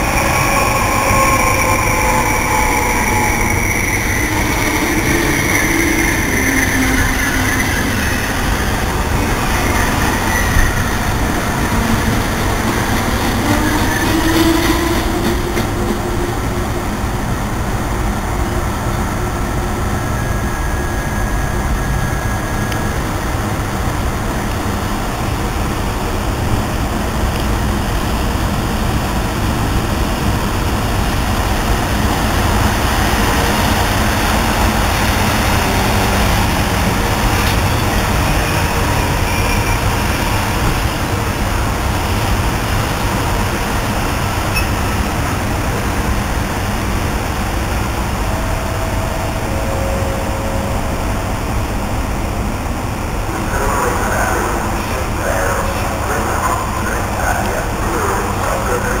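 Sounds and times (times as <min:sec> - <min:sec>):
freight train rumbling: 0:00.0 - 0:59.0.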